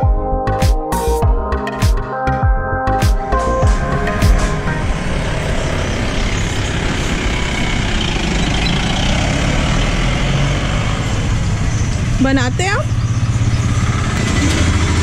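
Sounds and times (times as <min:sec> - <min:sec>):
steady outdoor rumbling: 0:00.0 - 0:15.0.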